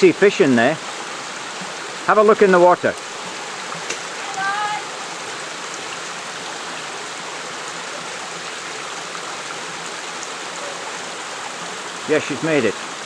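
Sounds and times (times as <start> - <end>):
small waterfall pouring into pool: 0.0 - 13.0.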